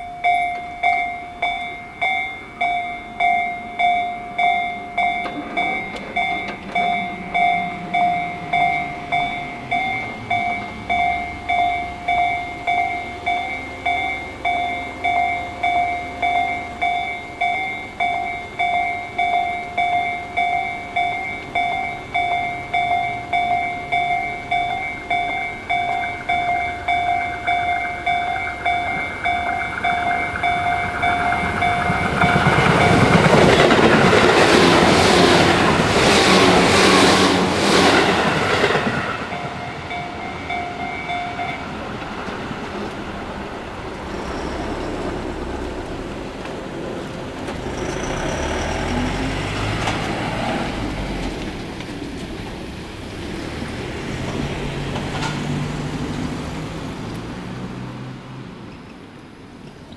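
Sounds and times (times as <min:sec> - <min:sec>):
level-crossing warning bell: 0:00.0 - 0:59.9
train passing: 0:00.0 - 0:59.9.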